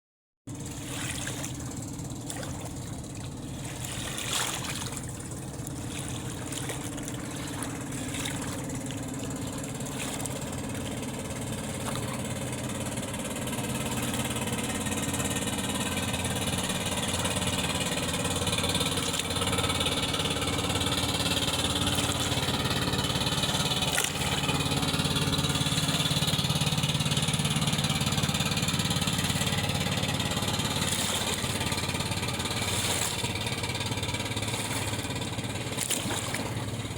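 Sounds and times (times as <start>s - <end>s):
engine running steadily: 0.5s - 36.9s.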